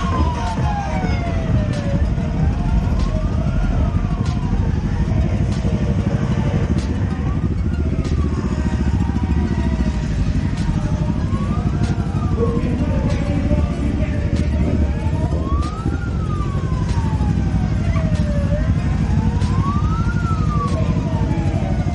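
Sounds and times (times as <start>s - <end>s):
engines rumbling in traffic: 0.0s - 21.9s
siren wailing: 0.0s - 21.9s.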